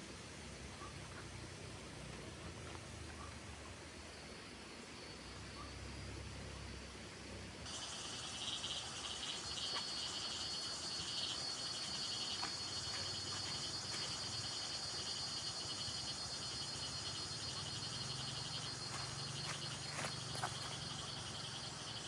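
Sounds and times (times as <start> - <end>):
insects trilling: 2.0 - 22.0.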